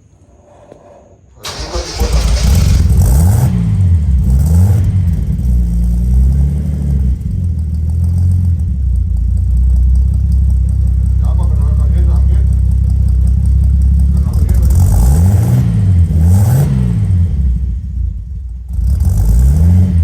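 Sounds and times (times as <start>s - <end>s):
car engine starting and revving: 1.4s - 20.0s.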